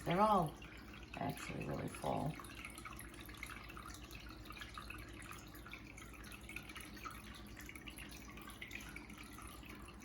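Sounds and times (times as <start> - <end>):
filter water trickling: 0.0 - 10.0.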